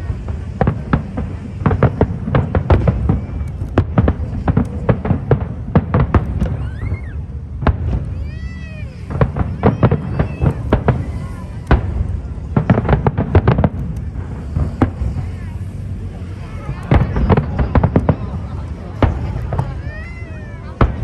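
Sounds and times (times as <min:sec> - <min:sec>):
fireworks bangs and crackles: 0:00.0 - 0:21.0
steady low rumble: 0:00.0 - 0:21.0.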